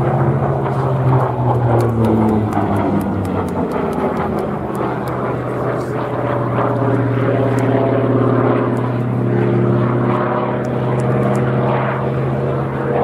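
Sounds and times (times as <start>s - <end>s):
propeller plane engine: 0.0s - 13.0s.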